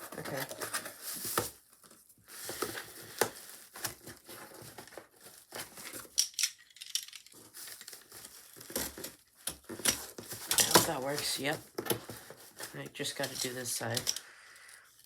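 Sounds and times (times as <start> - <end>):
cardboard and packaging rustling: 0.0 - 15.0.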